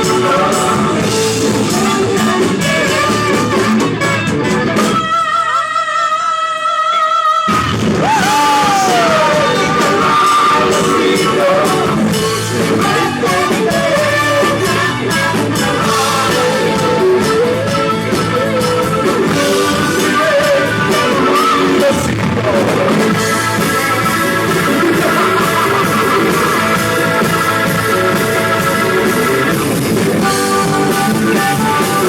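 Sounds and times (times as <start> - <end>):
bending lead guitar melody: 0.0 - 6.1, 7.5 - 32.0
rock band playing live: 0.0 - 32.0.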